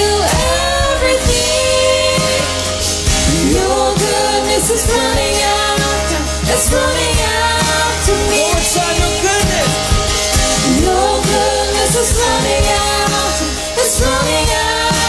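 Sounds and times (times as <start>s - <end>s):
acoustic guitar: 0.0s - 15.0s
people singing together: 0.0s - 15.0s.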